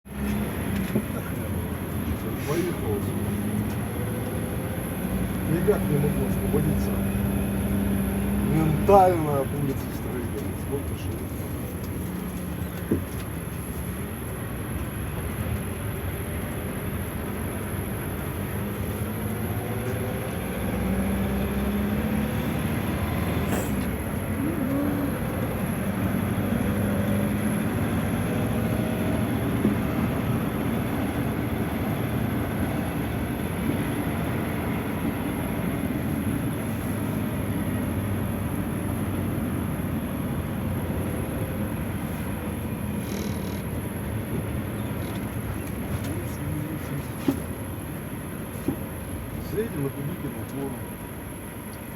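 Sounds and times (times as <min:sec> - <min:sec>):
moving vehicle drone: 0:00.1 - 0:51.9.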